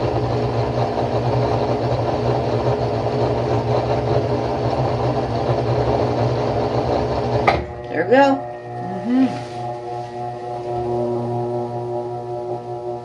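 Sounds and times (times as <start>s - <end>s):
washing machine pumping water: 0.0s - 13.0s.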